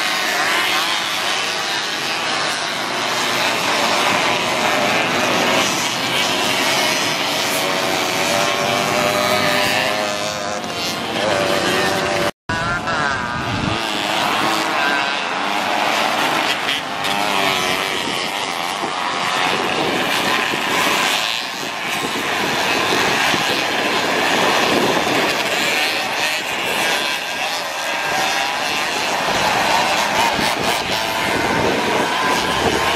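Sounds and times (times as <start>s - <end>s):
motorcycle engines buzzing and revving: 0.0s - 32.9s.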